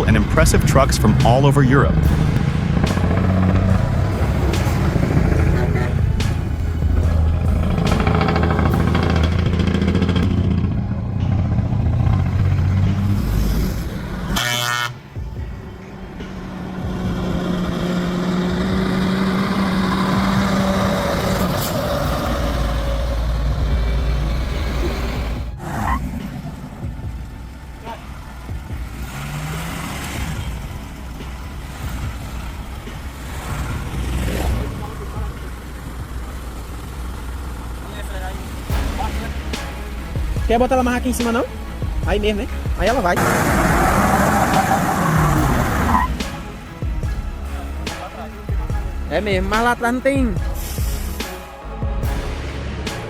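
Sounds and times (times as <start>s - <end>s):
heavy truck engine running: 0.0s - 53.0s.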